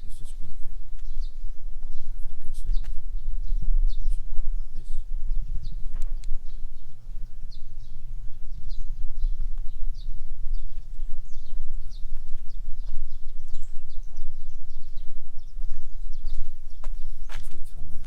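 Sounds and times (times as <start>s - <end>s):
birds chirping: 0.0s - 18.0s
wind rumble: 0.0s - 18.0s.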